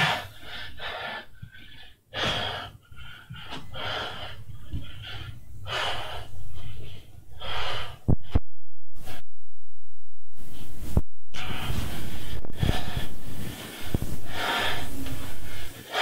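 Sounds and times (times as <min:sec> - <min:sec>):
man breathing heavily: 0:00.0 - 0:08.4, 0:11.4 - 0:16.0
low steady hum: 0:00.0 - 0:16.0.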